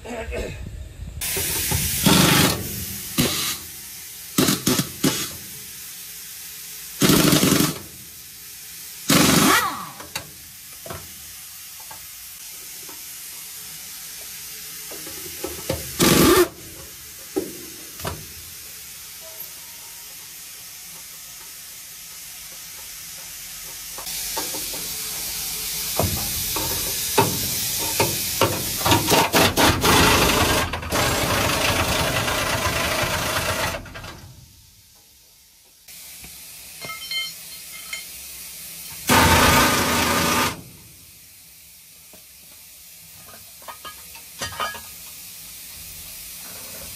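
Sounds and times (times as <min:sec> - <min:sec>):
loud steady hiss: 0:00.1 - 0:46.9.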